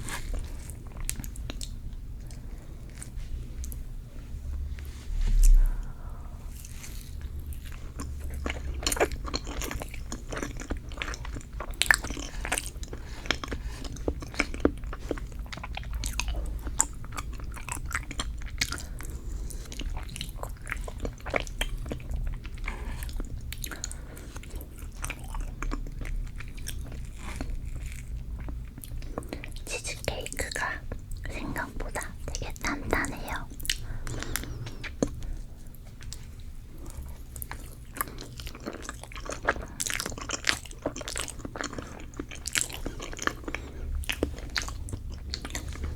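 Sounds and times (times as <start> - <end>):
chewing mouth sounds: 6.5 - 45.9.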